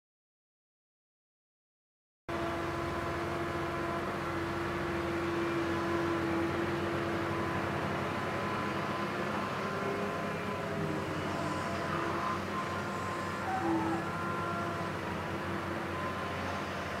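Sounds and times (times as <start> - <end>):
drone propellers whining: 2.4 - 17.0.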